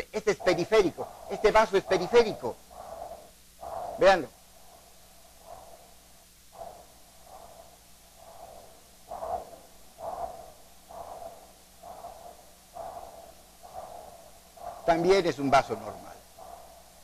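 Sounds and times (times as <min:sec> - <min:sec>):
doppler ultrasound pulsing whoosh: 0:00.0 - 0:17.0.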